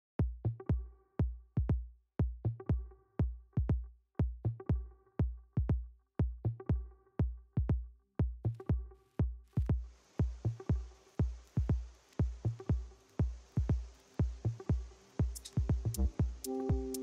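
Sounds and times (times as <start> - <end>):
deep kick drum beat: 0.2 - 17.0.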